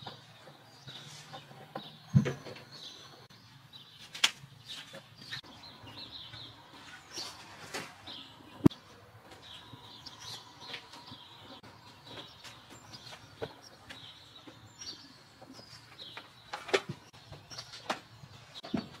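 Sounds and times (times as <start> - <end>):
plastic pots clattering: 0.0 - 3.2, 6.4 - 19.0
small birds chirping: 0.0 - 19.0.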